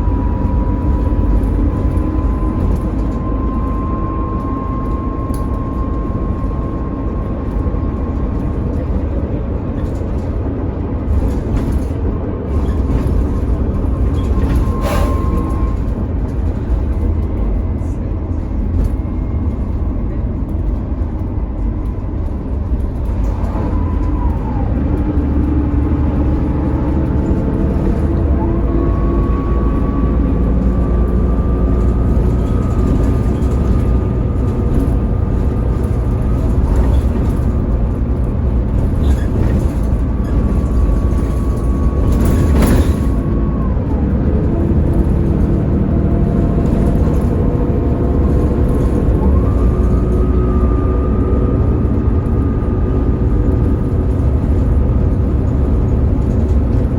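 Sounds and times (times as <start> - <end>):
gearbox whine: 0.0 - 17.7, 18.5 - 56.9
bus engine rumble: 0.0 - 56.9.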